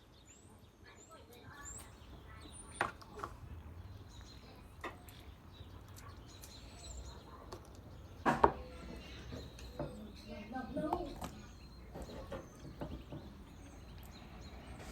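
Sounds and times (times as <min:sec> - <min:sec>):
faint bird chirps: 0:00.0 - 0:14.9.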